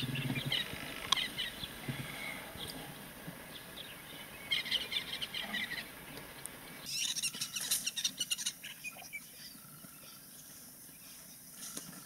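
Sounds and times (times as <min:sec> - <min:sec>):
faint outdoor hiss: 0:00.0 - 0:12.0
small birds chirping: 0:00.0 - 0:12.0.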